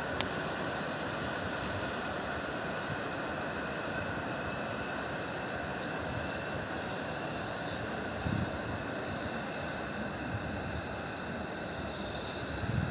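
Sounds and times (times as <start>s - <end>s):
electric train running noise: 0.0s - 12.9s.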